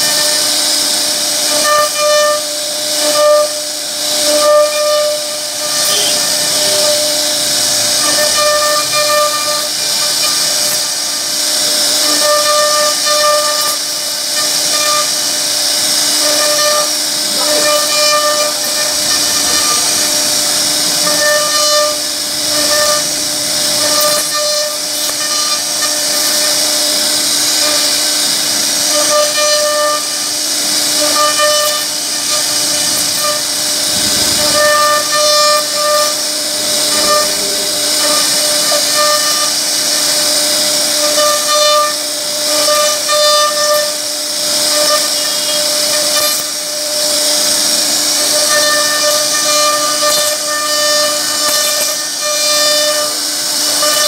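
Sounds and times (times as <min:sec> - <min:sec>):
router spindle carving wood: 0:00.0 - 0:54.0.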